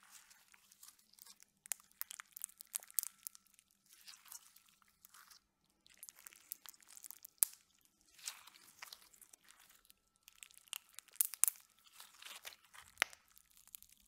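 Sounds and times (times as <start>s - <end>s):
slime crackling and clicking: 0.5s - 14.0s.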